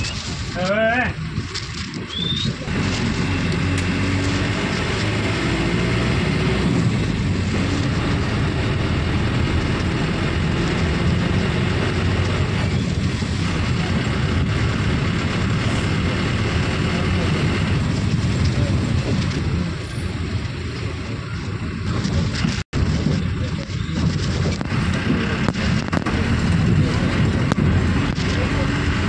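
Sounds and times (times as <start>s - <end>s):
vehicle engine hum: 0.0s - 29.0s.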